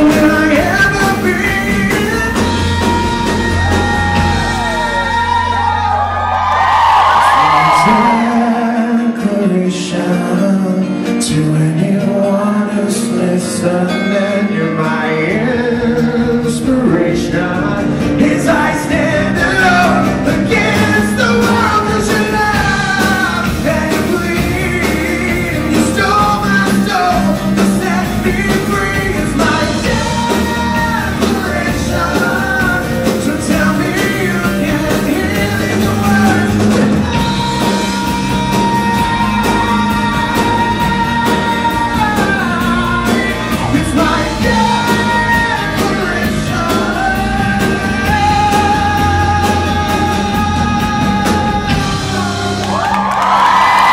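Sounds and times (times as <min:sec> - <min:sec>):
electric bass: 0:00.0 - 0:09.4, 0:10.2 - 0:53.9
drums: 0:00.0 - 0:53.9
man singing: 0:00.0 - 0:53.9.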